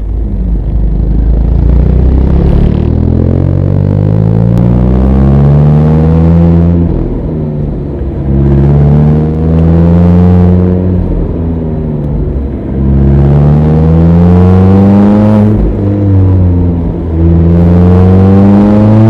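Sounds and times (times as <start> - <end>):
car engine revving uphill: 0.0 - 19.0.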